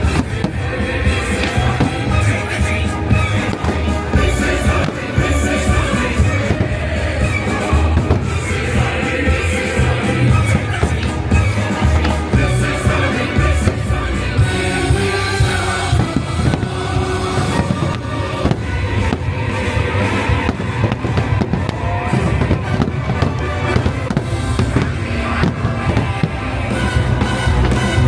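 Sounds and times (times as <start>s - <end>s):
fireworks bangs and crackles: 0.0s - 28.0s
loud show music: 0.0s - 28.0s.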